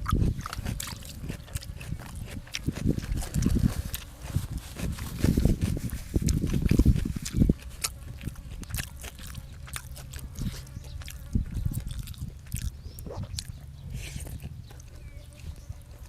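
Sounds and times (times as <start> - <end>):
wet mouth clicks: 0.0 - 15.8
person chewing food: 0.0 - 16.0.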